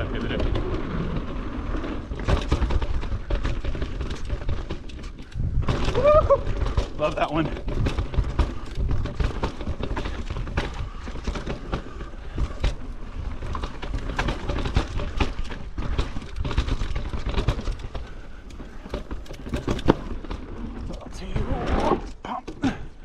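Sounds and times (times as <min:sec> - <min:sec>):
bike chain and frame clattering: 0:00.0 - 0:23.0.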